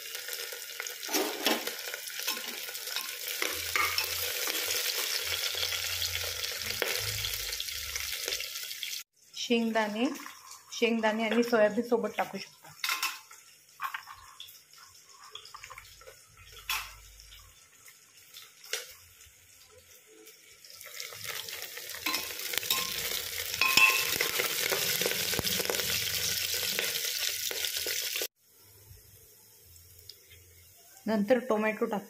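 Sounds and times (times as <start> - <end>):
peanuts sizzling in hot oil: 0.0 - 32.0.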